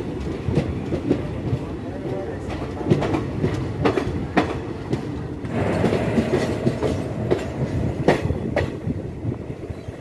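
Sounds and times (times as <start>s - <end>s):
train wheels and wind rumbling: 0.0s - 10.0s.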